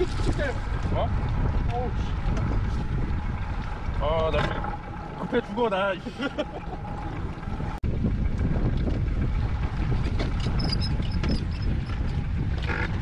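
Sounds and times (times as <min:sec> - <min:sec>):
water noise around boat: 0:00.0 - 0:13.0
wind rumbling on microphone: 0:00.0 - 0:13.0.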